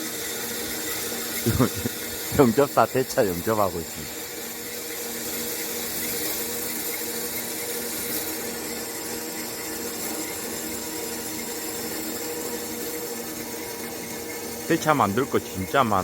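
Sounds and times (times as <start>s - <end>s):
welding arc crackling hiss: 0.0s - 16.0s.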